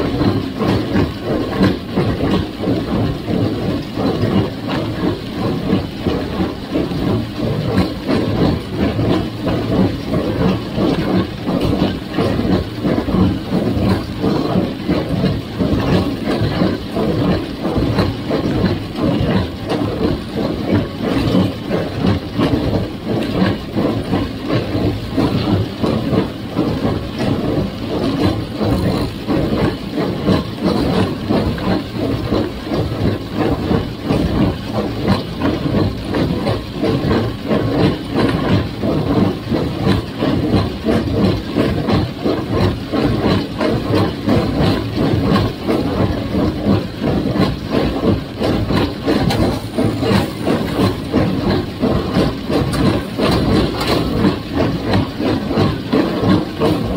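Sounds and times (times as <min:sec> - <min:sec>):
baler mechanical clatter: 0:00.0 - 0:56.9
tractor engine running: 0:00.0 - 0:56.9.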